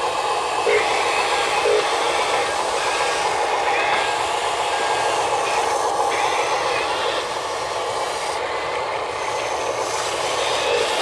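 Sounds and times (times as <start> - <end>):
toy excavator motors whirring: 0.0 - 11.0.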